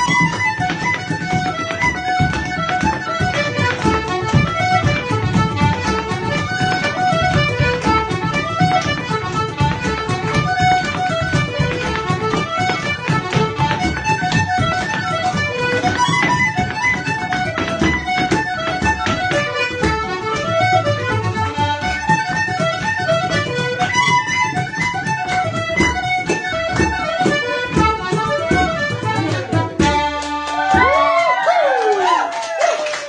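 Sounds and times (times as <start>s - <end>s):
feet beating on wooden floor: 0.0s - 30.0s
accordion: 0.0s - 31.2s.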